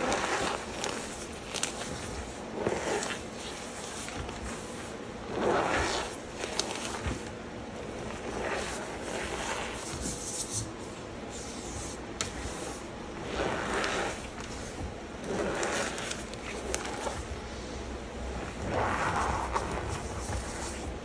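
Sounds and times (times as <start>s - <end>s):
hands kneading powder: 0.0s - 21.0s.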